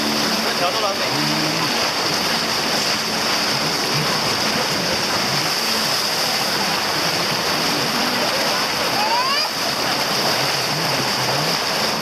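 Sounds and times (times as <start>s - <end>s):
water rushing along boat: 0.0s - 12.0s.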